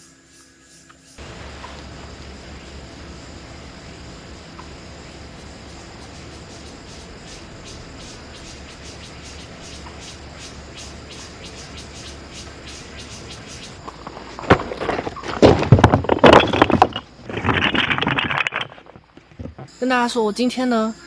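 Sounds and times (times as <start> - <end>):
insects chirping: 0.0 - 21.0
low background hum: 0.0 - 21.0.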